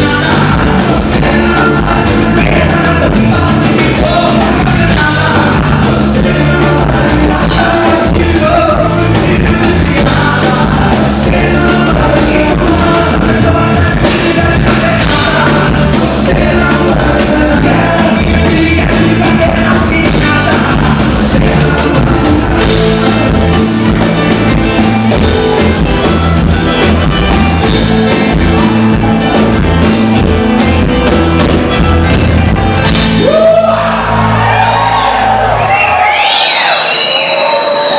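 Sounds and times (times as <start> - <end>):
lead vocalist singing: 0.0 - 31.5, 32.8 - 34.3
dance band playing amplified music: 0.0 - 37.9.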